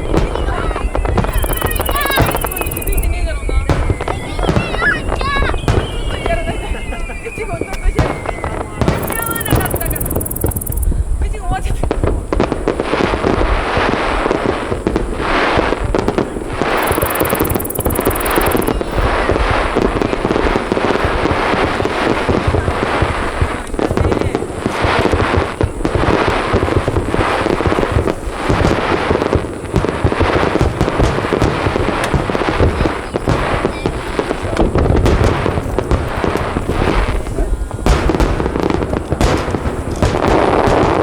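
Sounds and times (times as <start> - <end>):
fireworks booming and crackling: 0.0 - 41.0.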